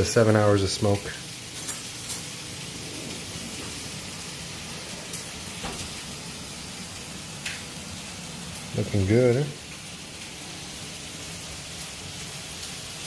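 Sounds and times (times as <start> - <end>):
steady recording hiss: 0.0 - 13.0.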